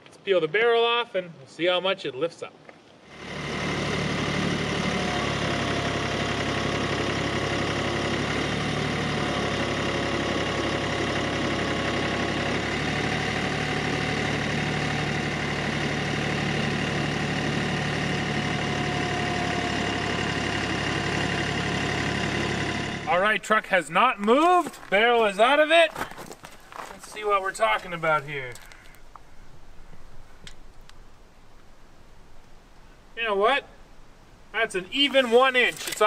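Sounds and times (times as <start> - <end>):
tractor engine running: 3.1 - 36.0.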